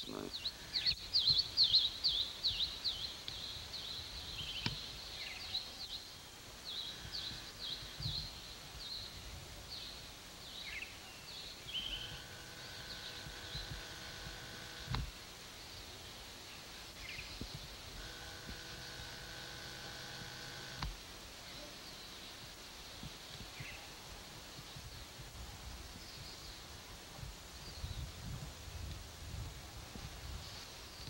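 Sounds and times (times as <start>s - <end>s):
songbirds chirping: 0.0s - 29.0s
faint steady hum: 0.0s - 31.0s.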